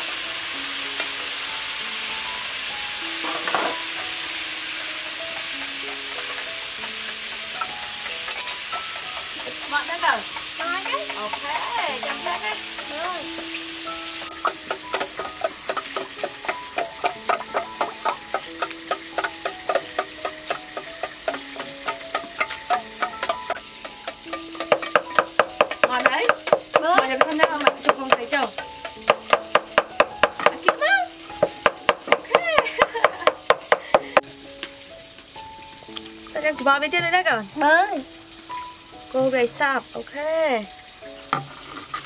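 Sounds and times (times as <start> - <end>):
background music: 0.0 - 42.0.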